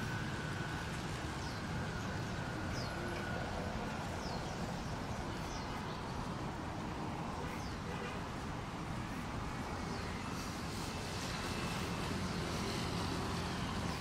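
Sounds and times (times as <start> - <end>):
low beach rush: 0.0 - 14.0.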